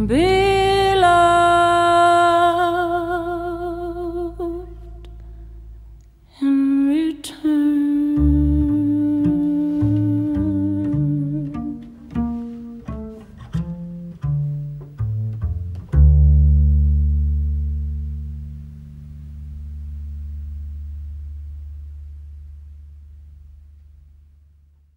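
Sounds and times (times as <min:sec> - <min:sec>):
plucked double bass: 0:00.0 - 0:24.7.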